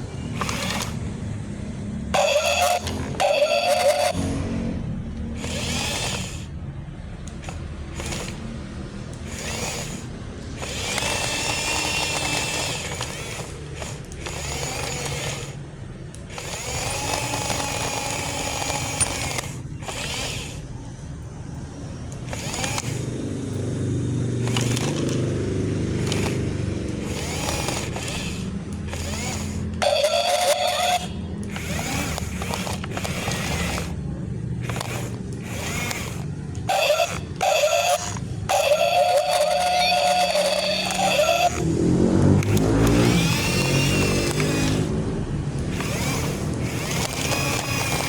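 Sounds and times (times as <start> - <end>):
toy electric motors whining: 0.0 - 48.0.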